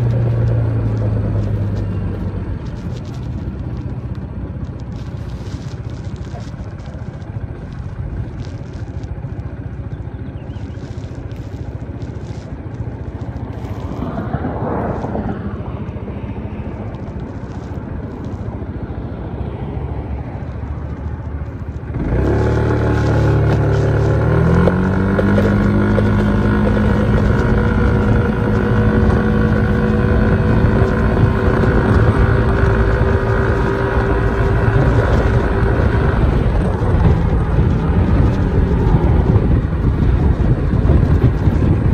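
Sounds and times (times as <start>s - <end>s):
scooter engine idling and revving: 0.0s - 41.9s
vehicle passing: 0.0s - 41.9s.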